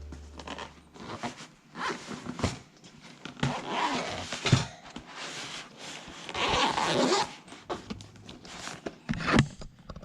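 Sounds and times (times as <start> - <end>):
handling rustling and scraping: 0.0 - 9.8.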